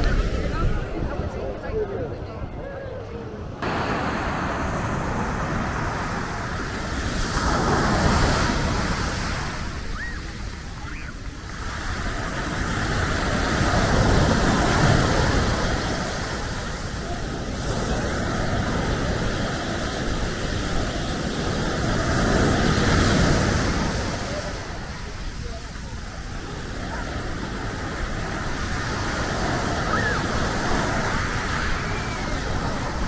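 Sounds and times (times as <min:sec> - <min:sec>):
wind rumbling on microphone: 0:00.0 - 0:33.0
sea waves breaking: 0:03.6 - 0:33.0.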